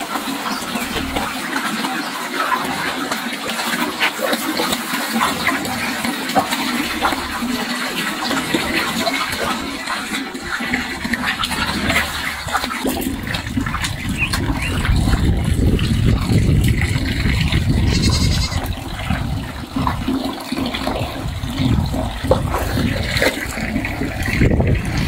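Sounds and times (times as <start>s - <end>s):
pigs munching leaves: 0.0s - 25.0s.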